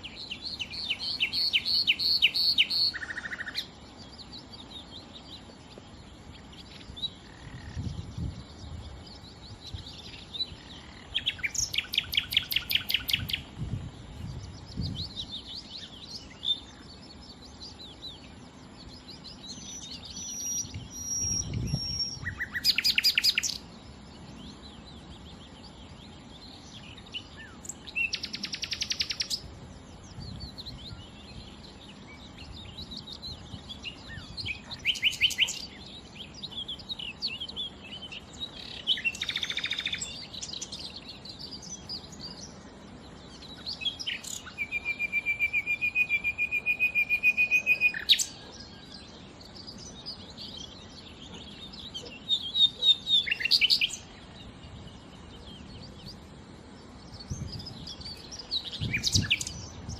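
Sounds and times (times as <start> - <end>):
nightingale singing: 0.0 - 59.9.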